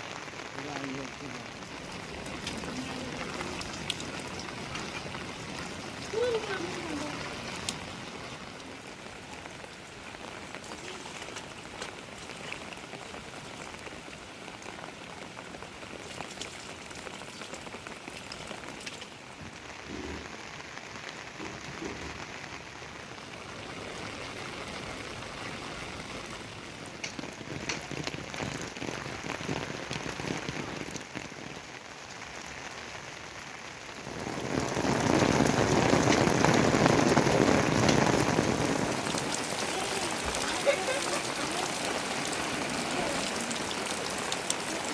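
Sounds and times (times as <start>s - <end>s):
rain falling on surfaces: 0.0s - 44.9s
raindrop ticks: 0.0s - 44.9s.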